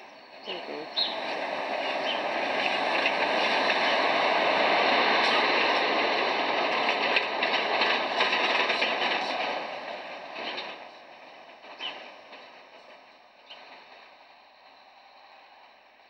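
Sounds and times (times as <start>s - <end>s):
tyres rumbling on cobblestones: 0.0s - 15.9s.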